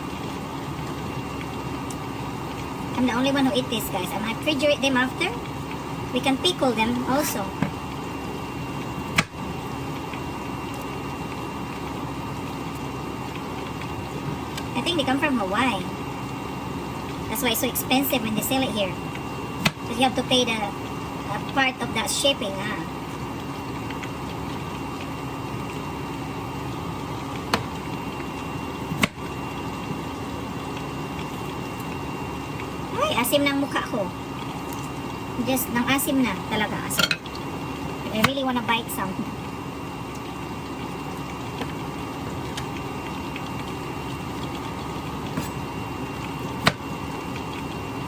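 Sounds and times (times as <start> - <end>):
background hum: 0.0 - 48.0.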